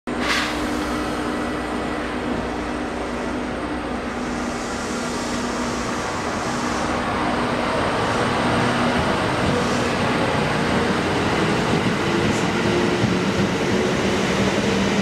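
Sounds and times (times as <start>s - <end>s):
electric train running hum: 0.2s - 15.0s.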